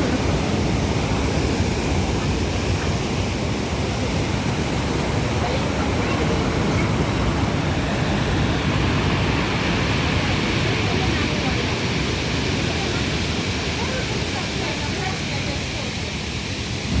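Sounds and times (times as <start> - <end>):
sea surf rushing: 0.0 - 17.0
wind rumbling on microphone: 0.0 - 17.0.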